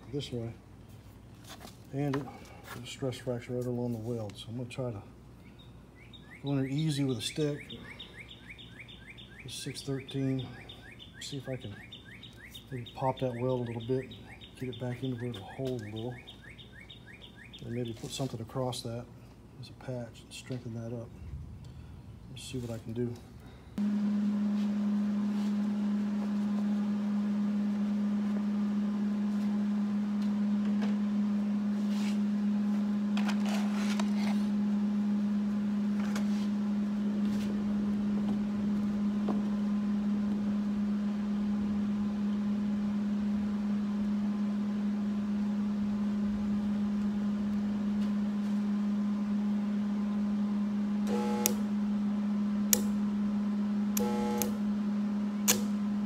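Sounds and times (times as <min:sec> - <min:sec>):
welder electrical hum: 0:00.0 - 0:56.0.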